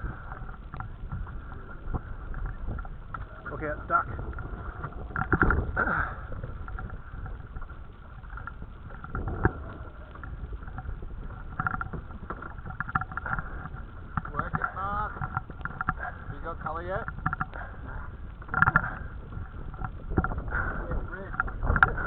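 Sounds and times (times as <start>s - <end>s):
waves slapping a hull: 0.0s - 22.0s
wind buffeting microphone: 0.0s - 22.0s.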